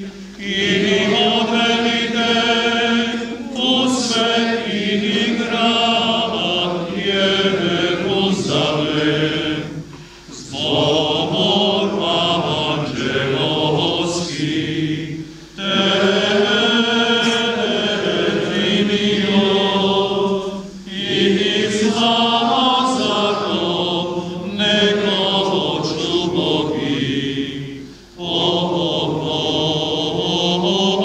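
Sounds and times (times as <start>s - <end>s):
men singing liturgical chant: 0.0s - 31.0s.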